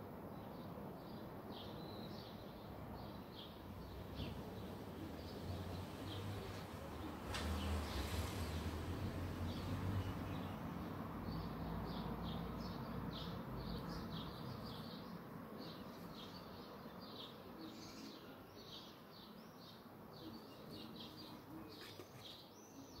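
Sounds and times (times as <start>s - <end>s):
small birds chirping: 0.3s - 23.0s.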